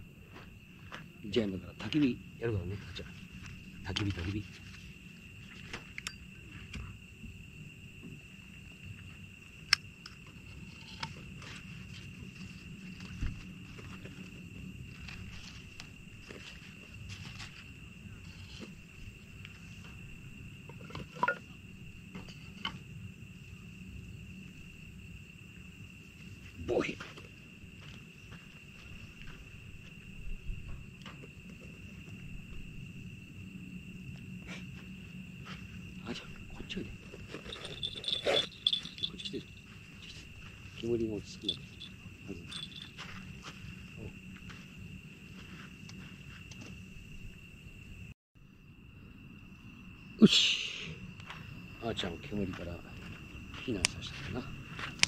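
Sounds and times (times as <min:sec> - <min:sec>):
crickets chirring: 0:00.0 - 0:55.0
night insects droning: 0:00.0 - 0:55.0.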